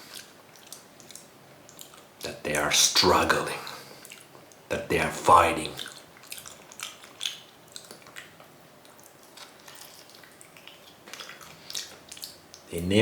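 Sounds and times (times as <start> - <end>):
mouth chewing wetly: 0.0 - 2.4, 3.6 - 4.7, 5.6 - 12.8
low room noise: 0.0 - 13.0.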